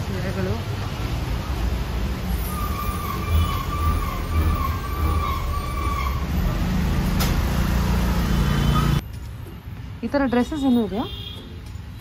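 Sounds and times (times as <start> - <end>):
road traffic rumbling: 0.0 - 12.0.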